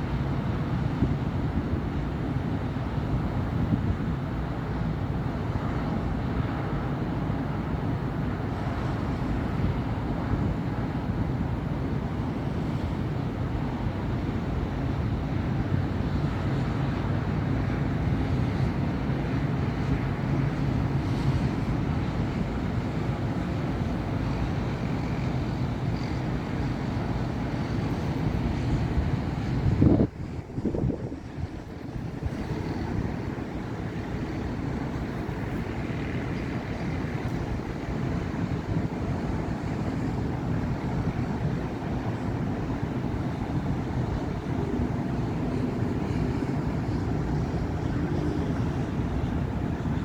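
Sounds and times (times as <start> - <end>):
city traffic rumble: 0.0 - 50.0.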